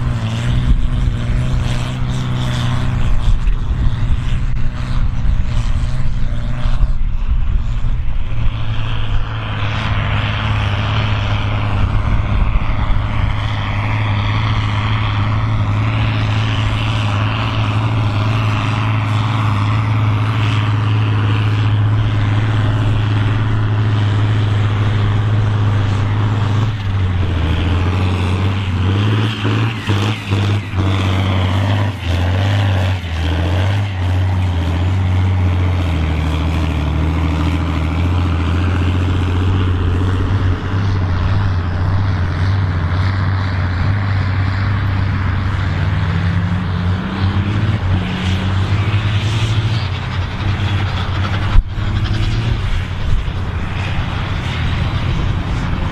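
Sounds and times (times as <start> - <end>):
diesel tractor engines under load: 0.0 - 55.9.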